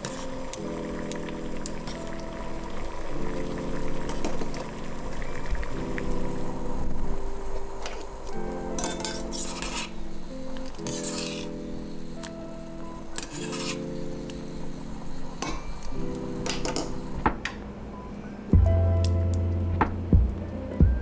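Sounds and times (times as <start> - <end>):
water boiling in saucepan: 0.0 - 17.3
background music with held chords: 0.0 - 21.0.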